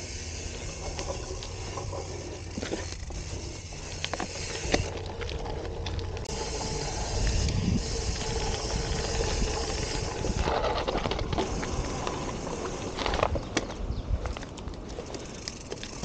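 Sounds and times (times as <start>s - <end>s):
bike rattling and clicking: 0.0s - 16.0s
bike tyres on dirt trail: 0.0s - 16.0s
wind rumbling on microphone: 0.5s - 16.0s.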